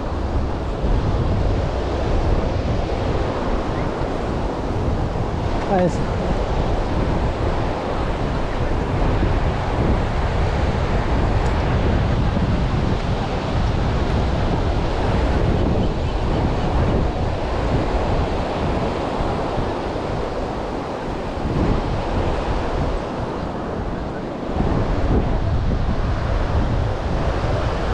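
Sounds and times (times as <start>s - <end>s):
ocean surf breaking: 0.0s - 27.9s
wind buffeting microphone: 0.0s - 27.9s.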